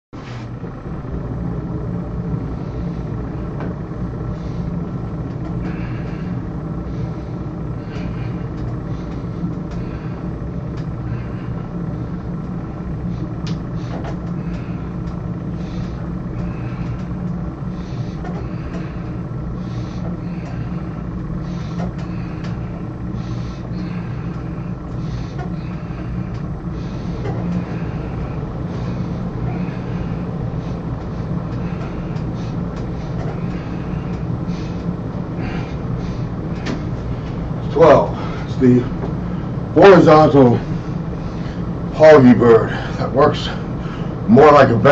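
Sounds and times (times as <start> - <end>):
low mechanical hum: 0.2 - 44.9.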